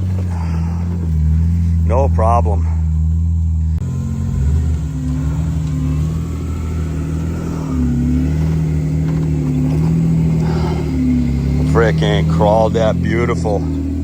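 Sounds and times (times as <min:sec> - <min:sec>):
engine at low revs: 0:00.0 - 0:14.0.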